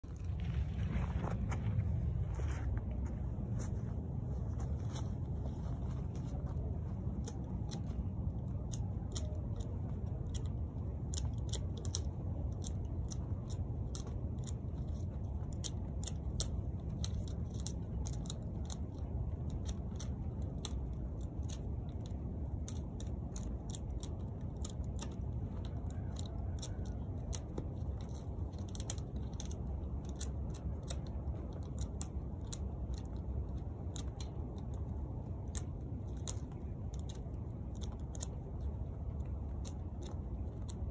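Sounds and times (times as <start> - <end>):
steady low rumble: 0.0 - 40.9.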